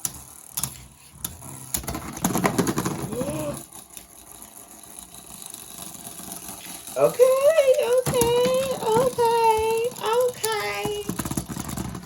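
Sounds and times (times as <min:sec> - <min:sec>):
spinning tops whirring: 0:00.0 - 0:12.0.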